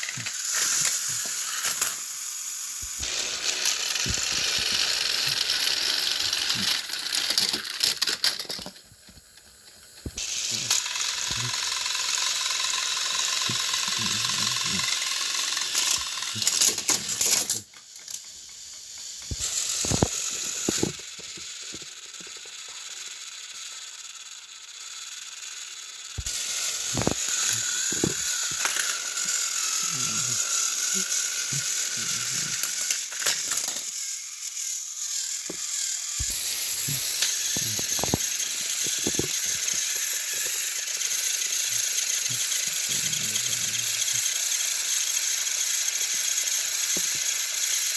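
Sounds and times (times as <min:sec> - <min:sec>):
toy train motors whirring: 0:00.0 - 0:47.9.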